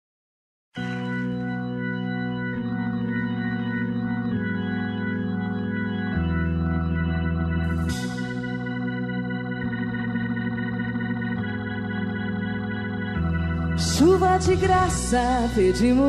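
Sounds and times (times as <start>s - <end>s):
organ playing sustained chords: 0.8s - 16.0s.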